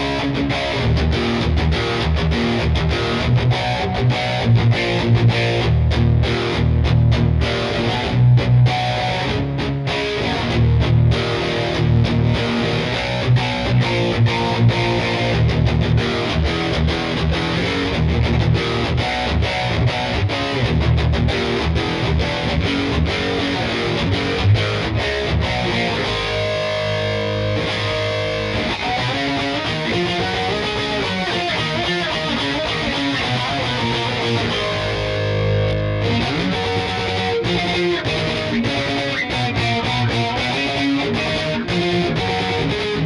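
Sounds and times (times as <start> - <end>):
distorted electric guitar: 0.0 - 43.0.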